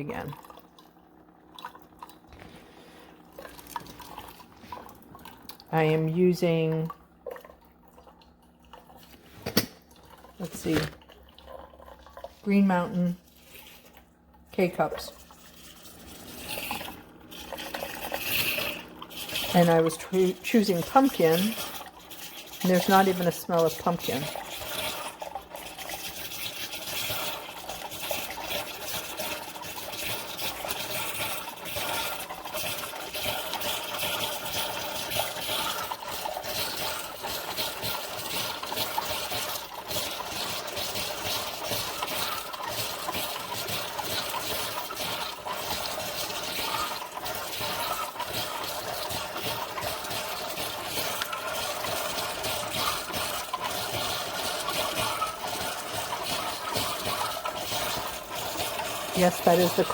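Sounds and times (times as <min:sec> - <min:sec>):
coffee maker pump running: 0:00.0 - 0:59.9
hot water sputtering into cup: 0:00.0 - 0:59.9.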